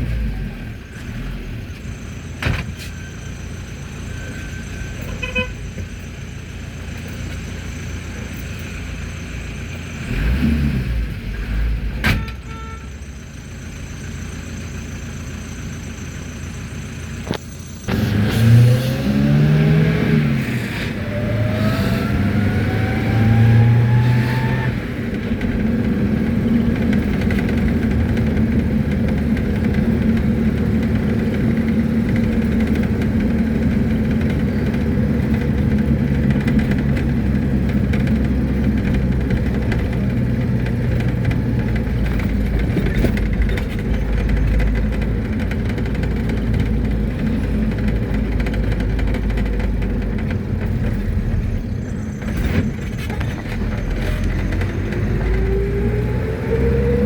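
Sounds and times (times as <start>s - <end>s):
low road rumble: 0.0s - 57.0s
minibus engine: 0.0s - 57.0s.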